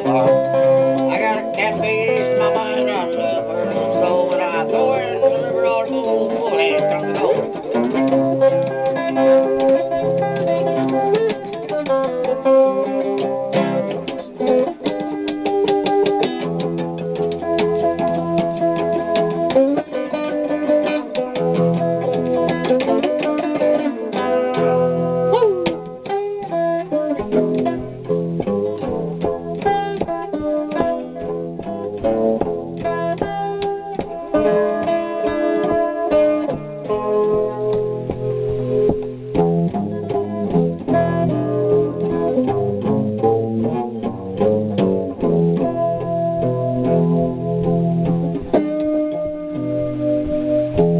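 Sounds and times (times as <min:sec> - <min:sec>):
jazz guitar picking: 0:00.0 - 0:50.9.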